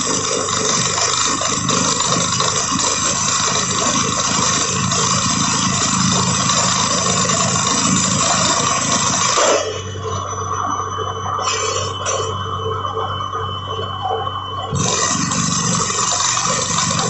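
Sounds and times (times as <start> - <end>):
drilling rig running: 0.0 - 17.0
fluctuating rumble: 0.0 - 17.0.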